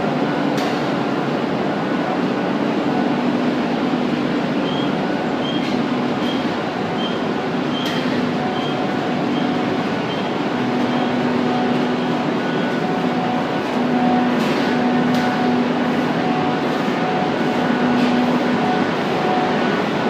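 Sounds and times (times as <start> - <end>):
industrial machinery din: 2.9 - 20.0.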